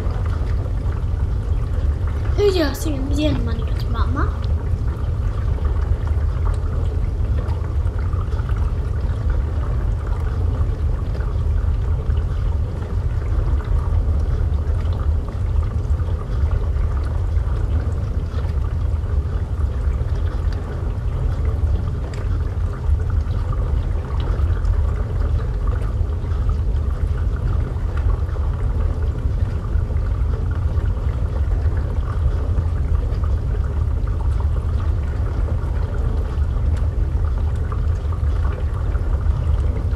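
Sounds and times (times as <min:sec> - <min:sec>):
underwater water rumble: 0:00.0 - 0:39.9.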